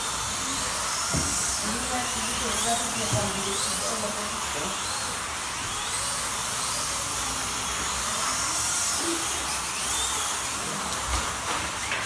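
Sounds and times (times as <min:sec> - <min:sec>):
slot car motors whining: 0:00.0 - 0:12.0.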